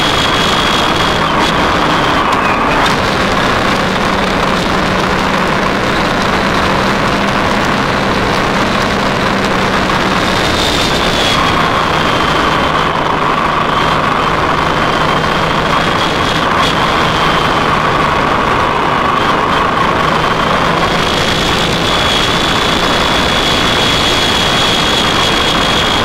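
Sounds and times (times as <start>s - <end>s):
constant rushing noise: 0.0s - 26.0s
motorcycle engine running: 0.0s - 26.0s.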